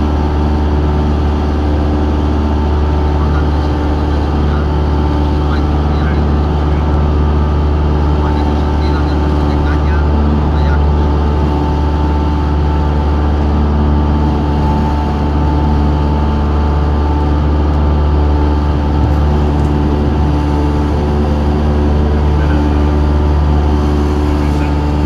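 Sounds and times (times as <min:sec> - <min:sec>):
light aircraft engine drone: 0:00.0 - 0:25.0.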